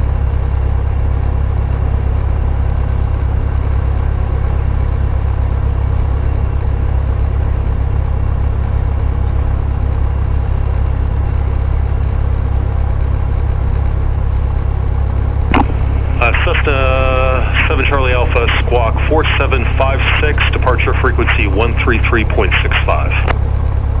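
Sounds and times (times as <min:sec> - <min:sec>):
piston engine droning: 0:00.3 - 0:24.0.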